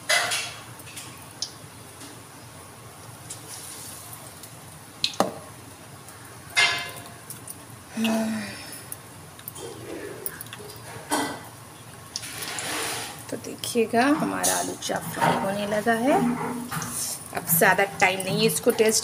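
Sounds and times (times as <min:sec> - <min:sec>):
deep-frying sizzle in hot oil: 0:00.0 - 0:19.0.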